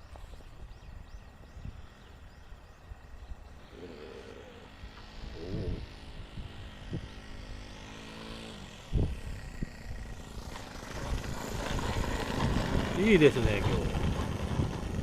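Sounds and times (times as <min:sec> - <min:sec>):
model airplane motor running: 0:00.1 - 0:15.0.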